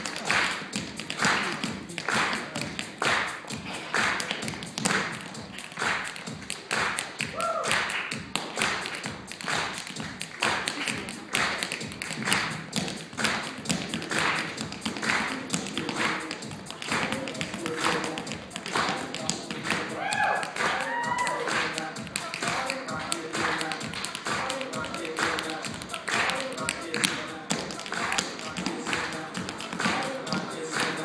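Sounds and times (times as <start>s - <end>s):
tap shoes on stage floor: 0.0s - 31.0s.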